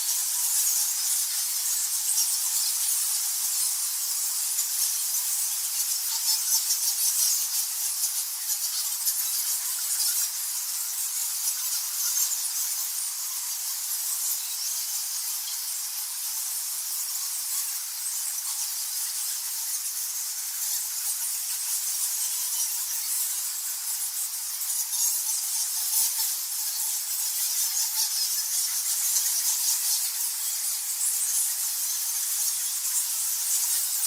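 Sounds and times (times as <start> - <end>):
bats squeaking and clicking: 0.0 - 34.0.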